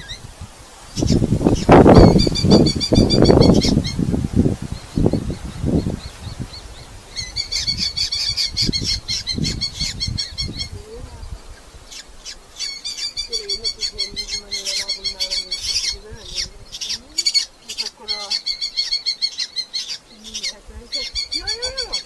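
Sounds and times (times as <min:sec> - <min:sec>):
falcons calling: 0:00.0 - 0:04.1, 0:04.7 - 0:22.0.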